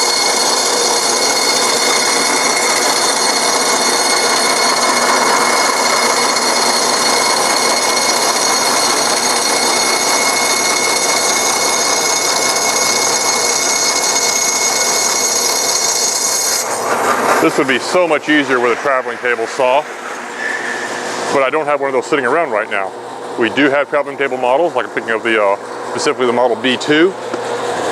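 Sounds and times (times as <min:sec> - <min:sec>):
bandsaw cutting foam whine: 0:00.0 - 0:26.1.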